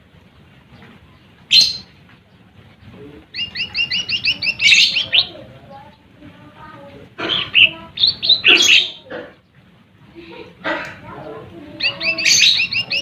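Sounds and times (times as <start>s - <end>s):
bird singing rapid chirps: 0.7s - 9.6s, 11.2s - 13.0s.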